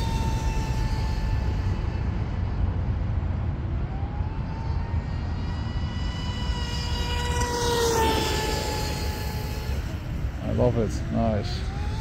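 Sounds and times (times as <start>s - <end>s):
electric motor whining: 0.0s - 12.0s
low rumble: 0.0s - 12.0s.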